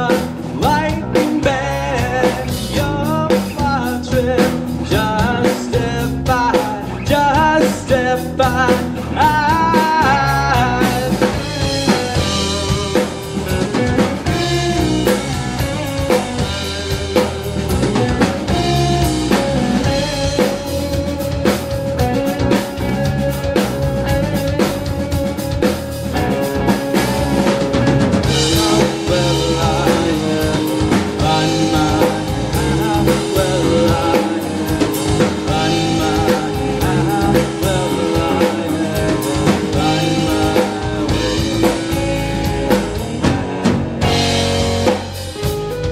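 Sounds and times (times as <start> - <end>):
drum kit beat: 0.0 - 45.9
electric guitar: 0.0 - 45.9.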